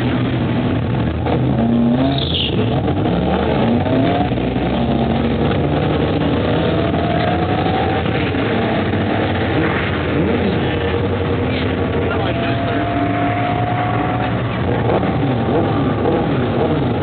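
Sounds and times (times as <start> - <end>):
car engine accelerating through gears: 0.0 - 17.0
car engine idling: 2.2 - 17.0.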